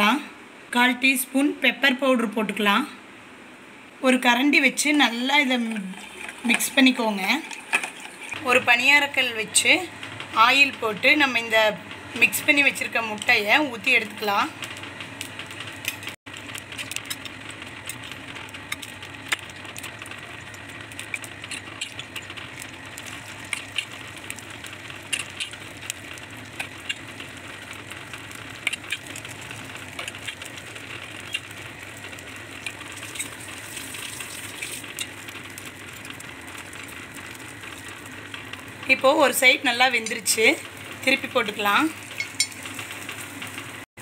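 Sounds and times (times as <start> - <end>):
egg mix sizzling in oil: 4.5 - 43.9.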